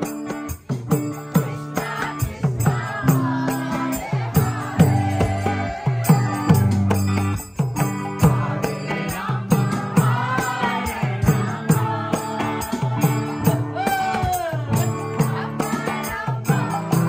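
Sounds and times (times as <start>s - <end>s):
hand drum beat: 0.0s - 17.0s
jingling hand cymbals: 0.0s - 17.0s
voices chanting: 1.8s - 6.8s, 8.2s - 17.0s.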